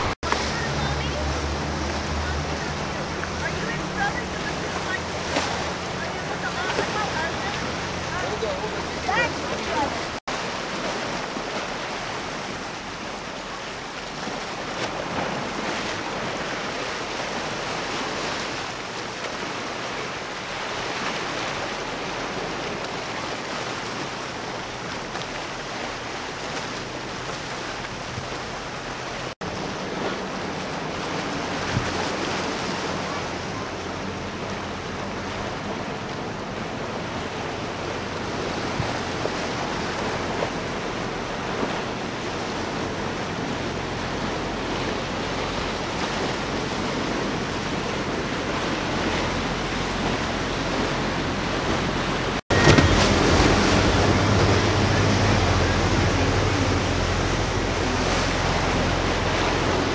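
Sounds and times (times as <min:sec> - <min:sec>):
faint low boat engine drone: 0:00.0 - 0:59.9
surf washing in: 0:00.0 - 0:59.9.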